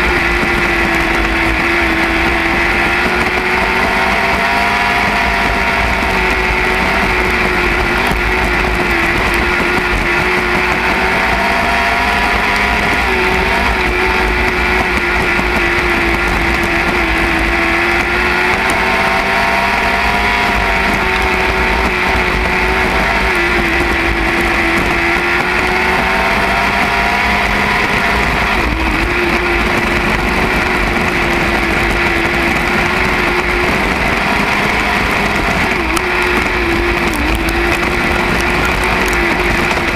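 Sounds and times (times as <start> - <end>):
constant low rumble: 0.0 - 39.9
race car engine running hard: 0.0 - 39.9.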